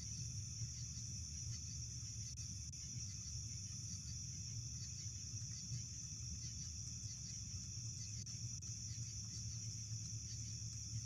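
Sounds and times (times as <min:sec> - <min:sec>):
crickets trilling: 0:00.0 - 0:11.0
low steady hum: 0:00.0 - 0:11.0.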